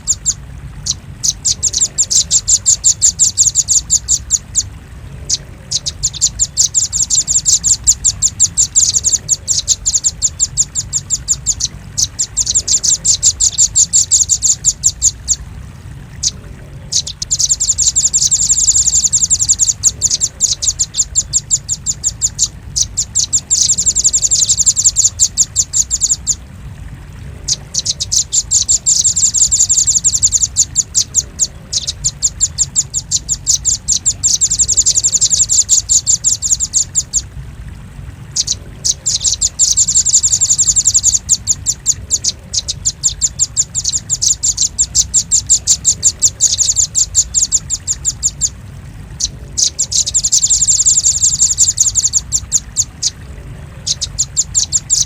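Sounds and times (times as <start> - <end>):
bird chip notes: 0.0 - 15.4, 16.2 - 26.4, 27.4 - 37.3, 38.3 - 55.0
steady low hum: 0.0 - 55.0.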